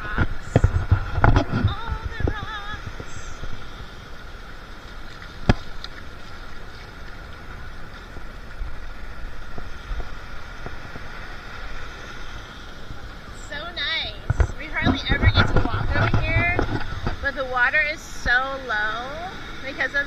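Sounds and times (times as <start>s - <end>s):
small waves washing on sand: 0.0s - 20.0s
wind on microphone: 0.0s - 20.0s.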